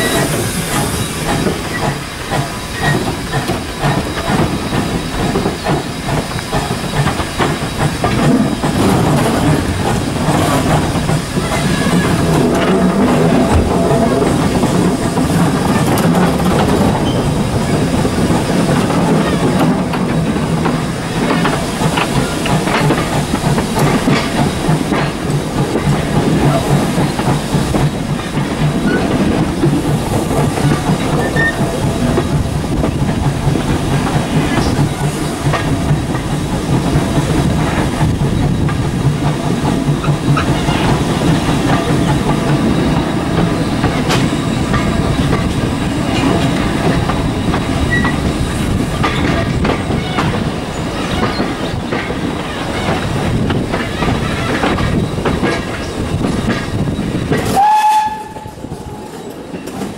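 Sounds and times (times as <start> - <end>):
steam hiss: 0.0 - 59.9
train wheels rumbling on track: 0.0 - 59.9.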